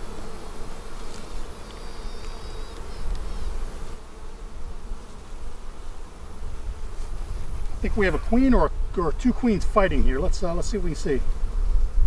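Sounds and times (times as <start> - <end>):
honeybees buzzing: 0.0 - 12.0
queen bee piping: 0.0 - 12.0.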